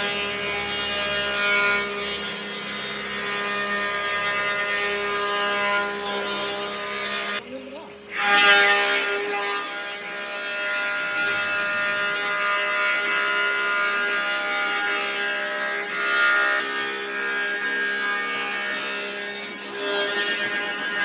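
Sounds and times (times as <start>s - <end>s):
power tool whining on wood: 0.0s - 21.0s.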